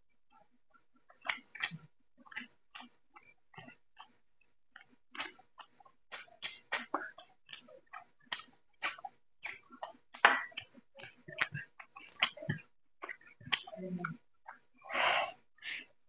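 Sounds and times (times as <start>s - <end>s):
wet chewing and mouth smacks: 1.0s - 15.9s.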